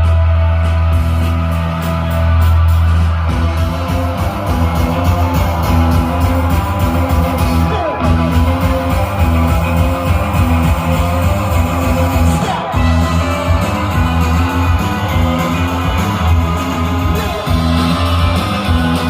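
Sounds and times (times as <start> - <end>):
guitar music with bass: 0.0 - 19.0.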